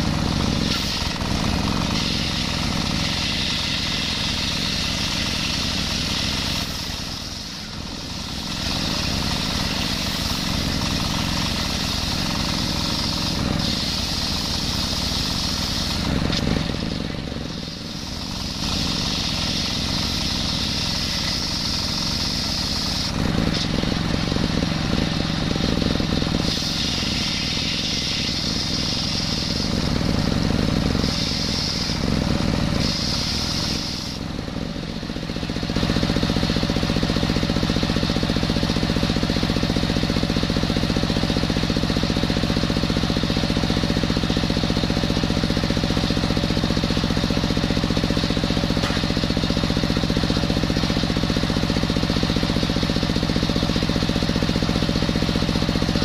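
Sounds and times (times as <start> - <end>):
circular saw blade whining: 0.0 - 56.0
diesel engine running: 0.0 - 56.0.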